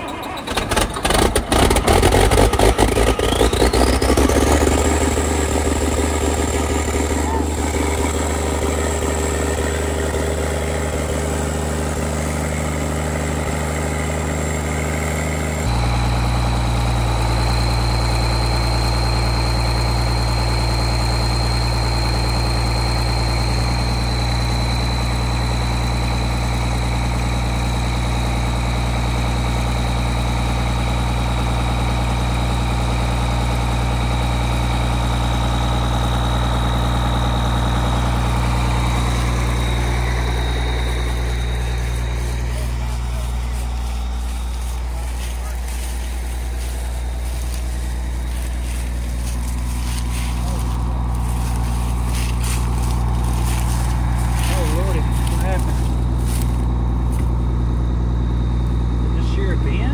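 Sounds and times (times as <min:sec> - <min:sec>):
tractor diesel engine idling: 0:00.0 - 0:59.9
steady high whine: 0:02.3 - 0:59.9.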